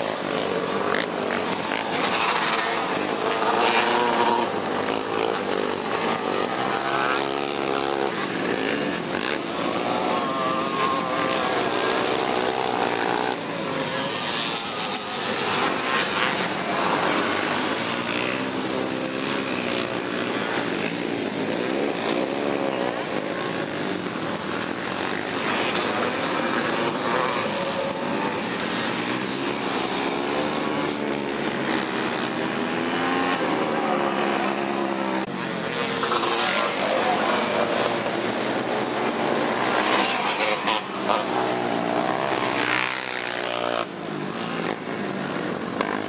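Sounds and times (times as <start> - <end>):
racing trike engines revving: 0.0 - 46.0.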